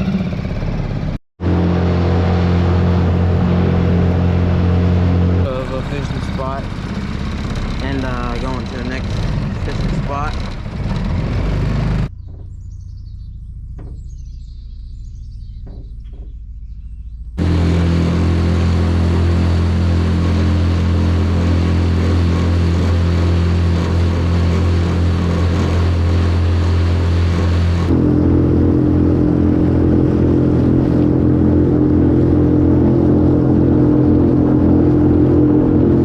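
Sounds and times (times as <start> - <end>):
outboard motor running: 0.0 - 12.5, 17.4 - 36.0.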